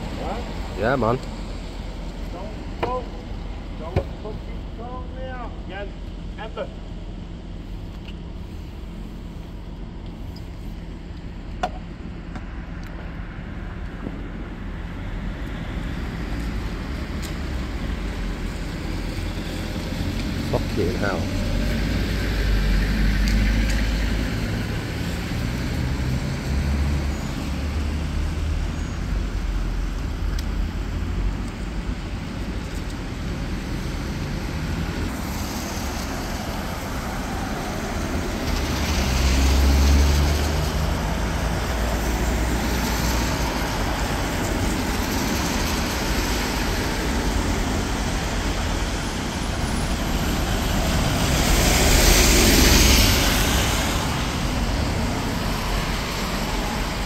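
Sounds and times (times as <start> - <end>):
bus passing: 0.0 - 3.8, 14.4 - 57.0
tyres hissing on wet road: 0.0 - 4.8, 14.5 - 57.0.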